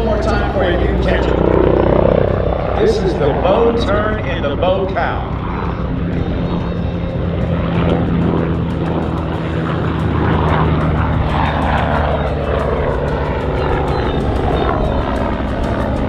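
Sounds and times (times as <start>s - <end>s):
helicopter turbine and rotor drone: 0.0s - 16.0s.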